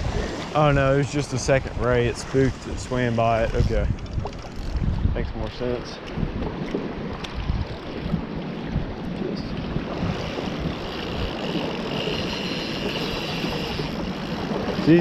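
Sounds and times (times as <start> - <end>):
water rushing: 0.0 - 15.0
wind buffeting microphone: 0.0 - 15.0.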